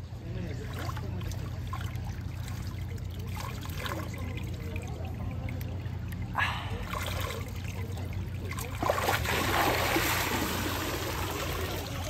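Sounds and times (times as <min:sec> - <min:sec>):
pool water trickling and splashing: 0:00.1 - 0:12.0.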